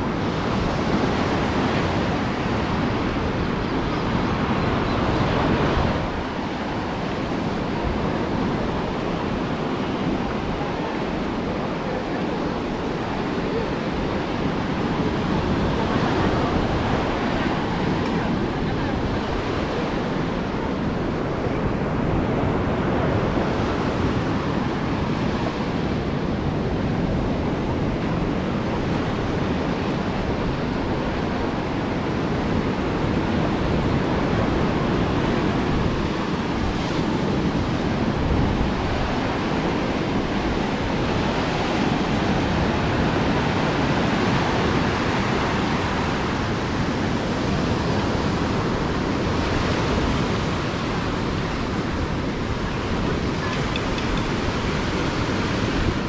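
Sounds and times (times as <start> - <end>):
ocean waves breaking: 0.0 - 56.0
wind noise on microphone: 0.0 - 56.0.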